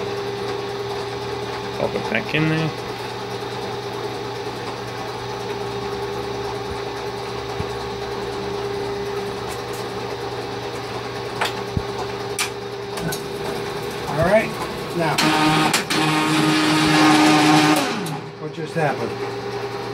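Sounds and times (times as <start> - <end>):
lathe motor humming: 0.0 - 19.9.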